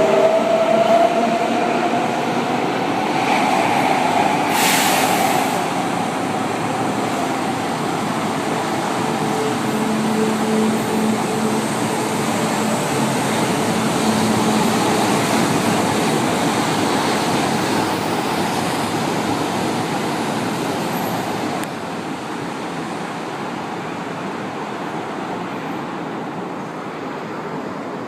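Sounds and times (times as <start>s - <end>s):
metro train rolling rumble: 0.0s - 28.0s.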